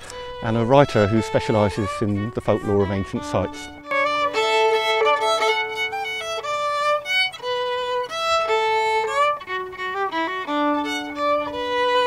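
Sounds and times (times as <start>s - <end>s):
solo fiddle melody: 0.0s - 12.0s.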